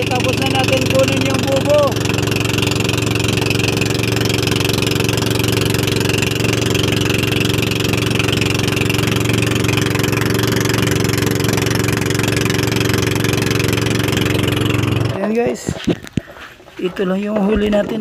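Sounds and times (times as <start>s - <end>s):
water rushing past hull: 0.0s - 15.2s
boat engine running: 0.0s - 15.8s.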